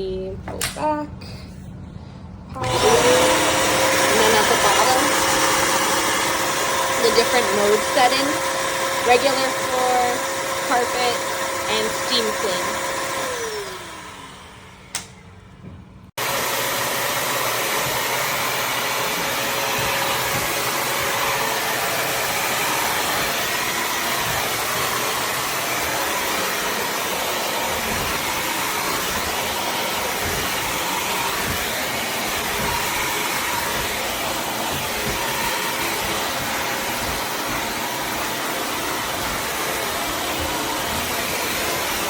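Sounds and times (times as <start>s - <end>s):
floor cleaner motor running: 2.6s - 14.8s, 16.2s - 42.0s.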